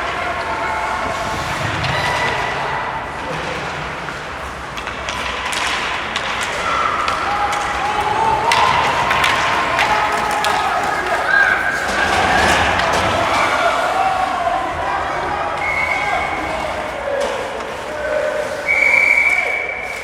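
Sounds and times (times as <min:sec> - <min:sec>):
crowd and rink noise: 0:00.0 - 0:20.0
hockey sticks and puck clacking: 0:00.0 - 0:20.0
voices: 0:00.0 - 0:20.0.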